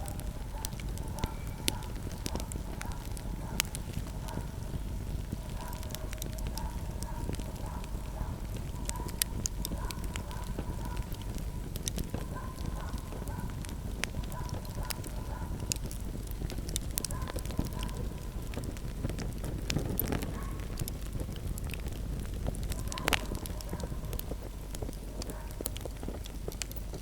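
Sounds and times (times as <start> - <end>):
fire crackling and popping: 0.0 - 27.0
low rumble of fire flames: 0.0 - 27.0.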